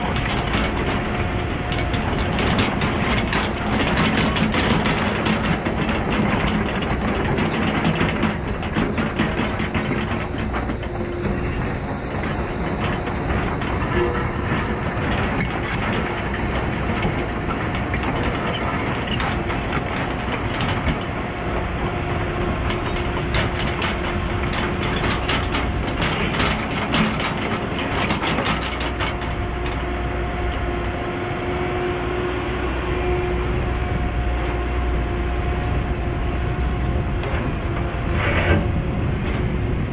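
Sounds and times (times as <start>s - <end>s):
diesel engine running: 0.0s - 39.9s
steel tracks clanking: 0.0s - 39.9s.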